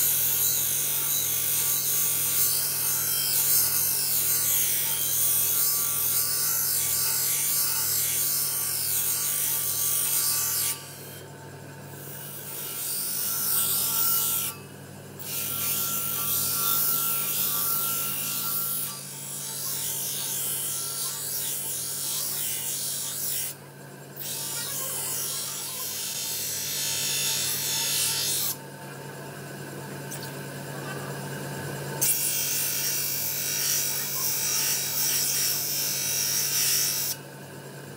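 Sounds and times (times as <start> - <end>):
grinder motor hum: 0.0 - 37.9.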